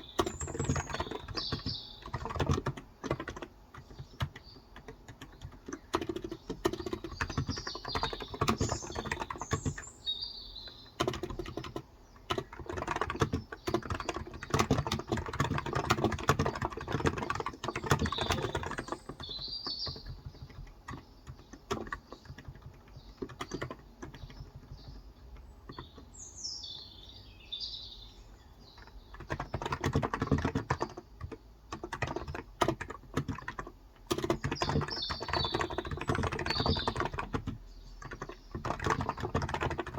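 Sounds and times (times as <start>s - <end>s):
keyboard key clicks: 0.0s - 9.9s, 11.0s - 26.0s, 28.8s - 39.9s
birds chirping: 0.0s - 39.9s.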